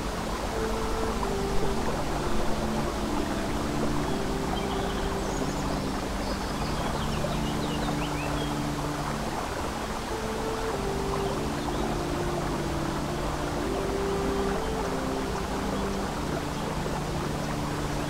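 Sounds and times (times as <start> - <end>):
babbling brook: 0.0 - 18.0
soft held music notes: 0.0 - 18.0.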